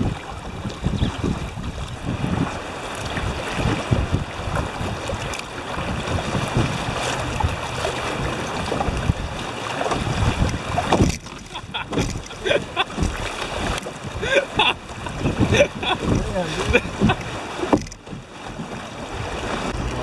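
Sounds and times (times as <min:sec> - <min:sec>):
whitewater rushing around canoe: 0:00.0 - 0:20.0
wind buffeting microphone: 0:00.0 - 0:20.0.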